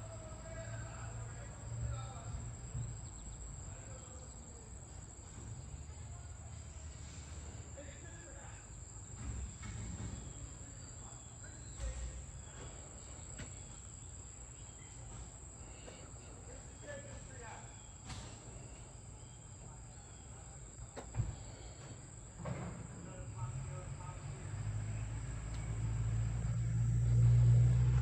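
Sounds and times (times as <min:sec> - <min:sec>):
insects chirring: 0:00.0 - 0:28.0
low outdoor rumble: 0:00.0 - 0:28.0.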